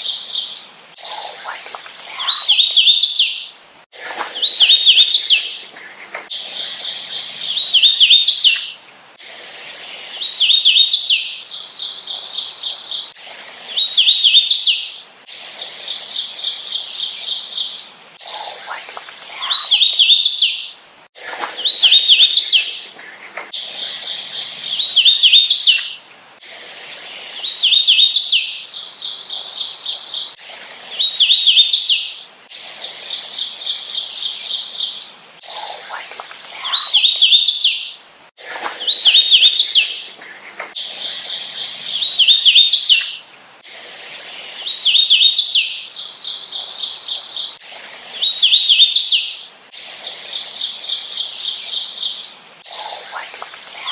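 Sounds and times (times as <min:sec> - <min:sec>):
warbler singing: 0:00.0 - 0:08.8, 0:09.8 - 0:15.0, 0:15.7 - 0:26.1, 0:27.0 - 0:38.0, 0:38.7 - 0:43.3, 0:44.2 - 0:49.5, 0:50.1 - 0:53.9.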